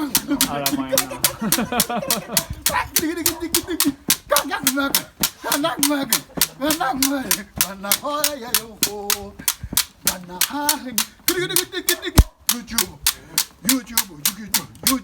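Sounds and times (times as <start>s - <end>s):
voices singing or chanting: 0.0s - 15.0s.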